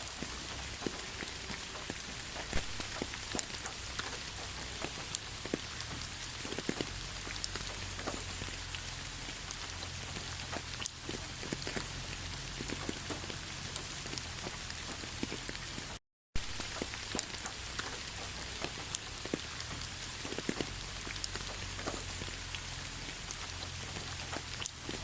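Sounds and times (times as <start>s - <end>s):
raindrops ticking: 0.0s - 25.0s
steady rain hiss: 0.0s - 25.0s.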